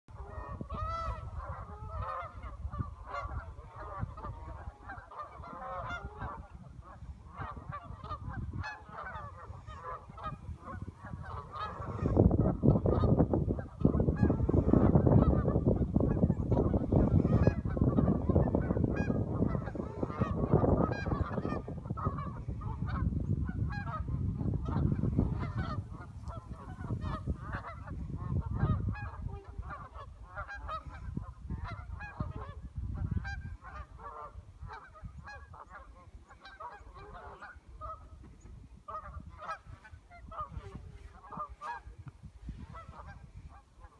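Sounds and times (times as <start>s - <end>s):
geese honking: 0.1s - 43.9s.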